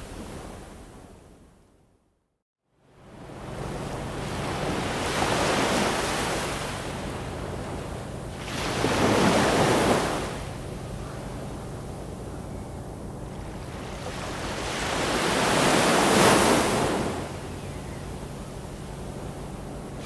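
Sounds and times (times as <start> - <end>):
ocean waves washing in: 2.8 - 12.3, 13.0 - 20.0.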